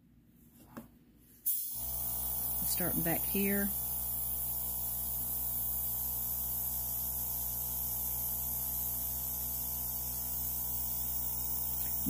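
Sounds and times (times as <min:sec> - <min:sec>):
air compressor humming: 0:01.4 - 0:12.0
airbrush air hiss: 0:01.4 - 0:12.0.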